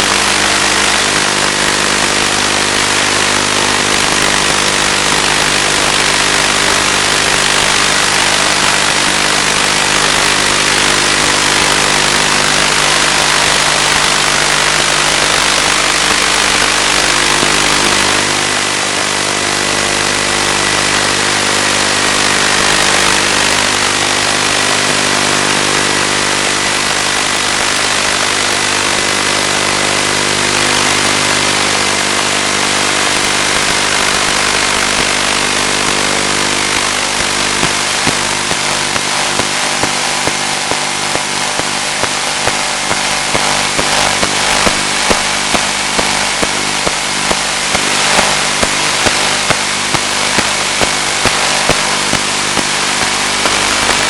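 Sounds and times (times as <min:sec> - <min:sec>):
motor humming: 0:00.0 - 0:54.0
radio static: 0:00.0 - 0:54.0.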